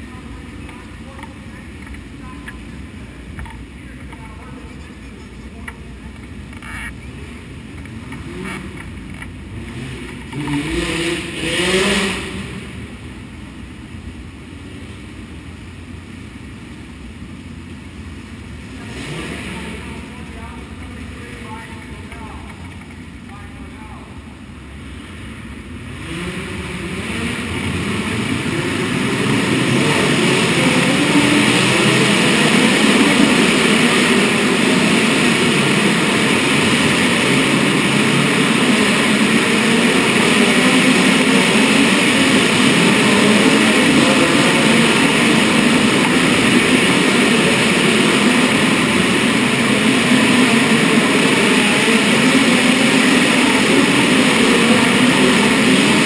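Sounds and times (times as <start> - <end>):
racing car engines droning: 0.0 - 56.0.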